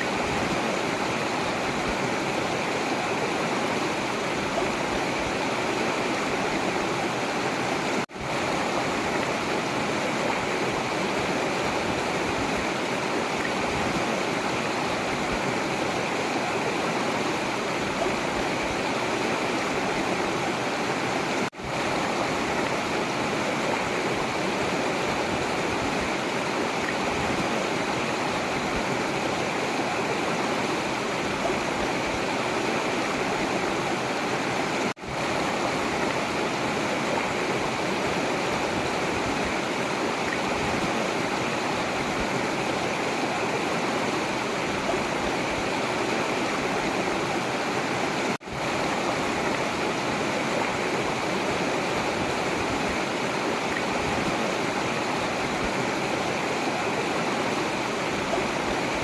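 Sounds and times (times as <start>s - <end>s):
river flowing water: 0.0s - 59.0s.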